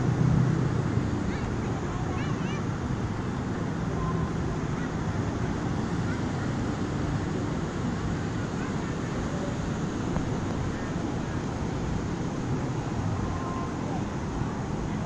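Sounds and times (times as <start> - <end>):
faint voices: 0.0 - 15.0
low beach rumble: 0.0 - 15.0.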